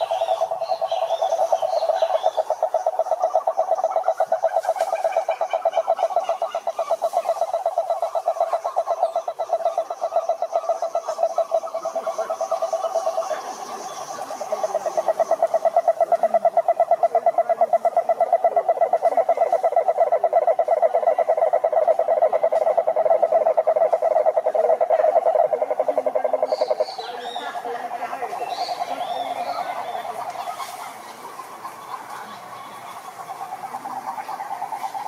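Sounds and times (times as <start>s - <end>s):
frog pulsing trill: 0.0s - 30.6s, 32.7s - 35.0s
faint frog calls: 0.0s - 35.0s.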